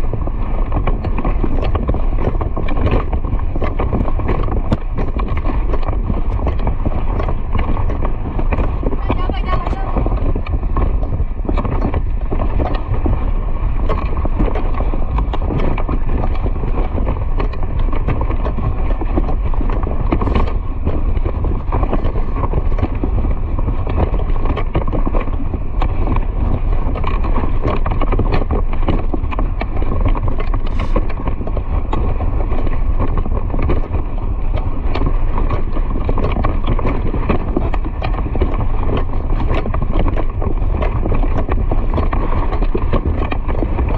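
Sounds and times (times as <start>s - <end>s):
horse hooves galloping: 0.0s - 43.9s
wind on microphone: 0.0s - 43.9s.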